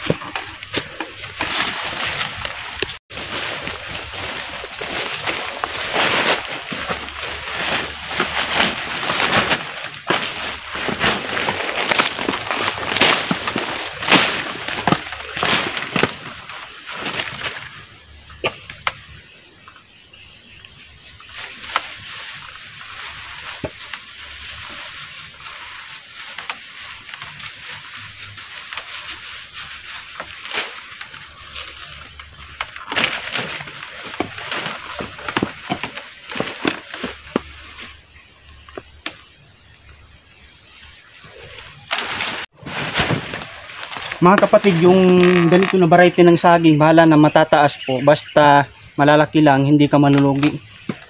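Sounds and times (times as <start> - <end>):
plastic bag crackling: 0.0 - 18.0, 21.1 - 39.0, 41.3 - 46.4
dry leaves rustling: 0.0 - 51.0.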